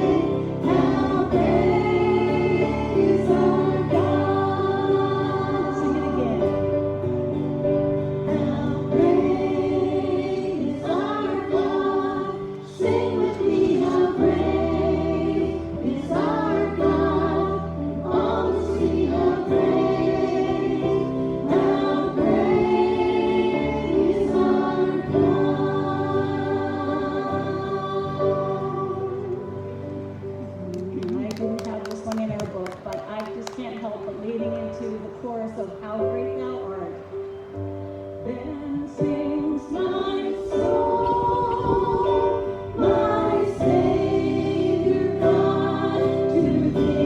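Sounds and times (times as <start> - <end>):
group singing a gospel hymn: 0.0 - 31.2, 38.2 - 47.0.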